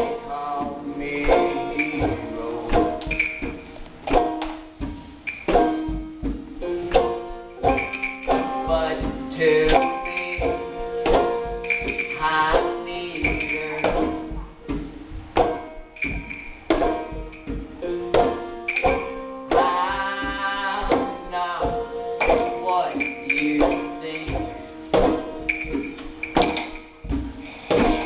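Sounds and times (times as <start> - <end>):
hand drum: 0.0 - 28.0
picked banjo: 0.0 - 28.0
strummed acoustic guitar: 0.0 - 28.0.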